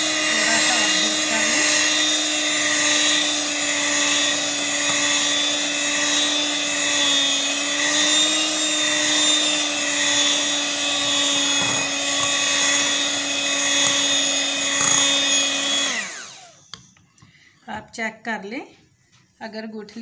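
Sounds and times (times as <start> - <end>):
electric mixer whisking batter: 0.0 - 17.0.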